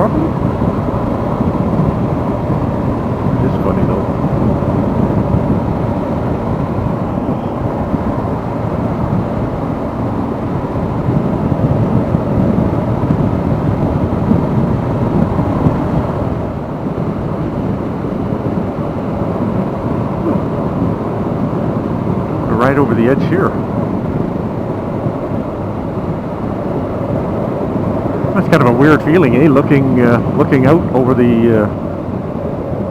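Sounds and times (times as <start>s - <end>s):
motorcycle road noise: 0.0s - 32.9s
wind rush on microphone: 0.0s - 32.9s.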